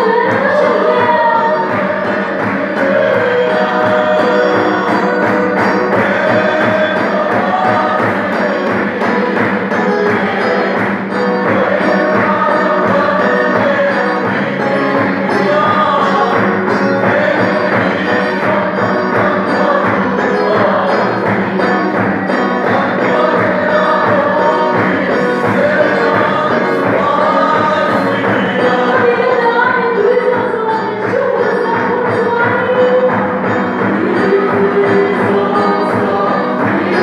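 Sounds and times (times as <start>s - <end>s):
drum and percussion beat: 0.0s - 37.0s
group singing worship song: 0.0s - 37.0s.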